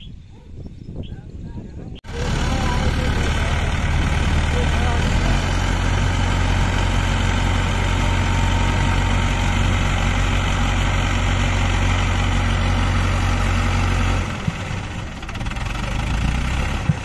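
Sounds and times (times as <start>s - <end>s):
diesel engine droning: 2.0s - 17.0s.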